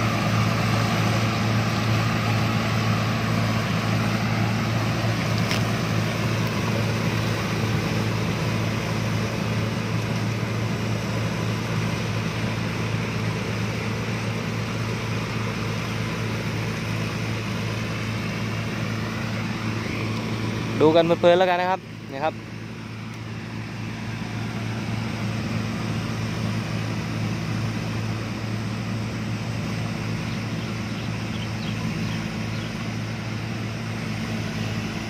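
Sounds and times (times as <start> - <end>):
low engine drone: 0.0 - 35.0
machinery noise: 0.0 - 35.0.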